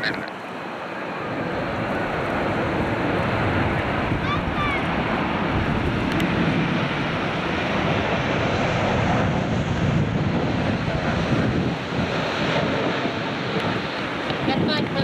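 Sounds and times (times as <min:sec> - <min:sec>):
jet engine roar: 0:00.0 - 0:15.0
wind buffeting microphone: 0:00.0 - 0:15.0.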